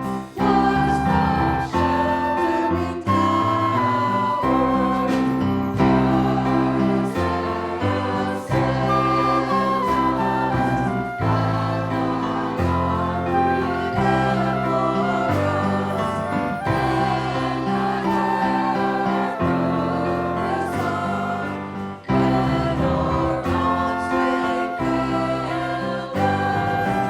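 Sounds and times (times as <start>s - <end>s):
group of voices singing: 0.0s - 27.0s
instrumental accompaniment: 0.0s - 27.0s.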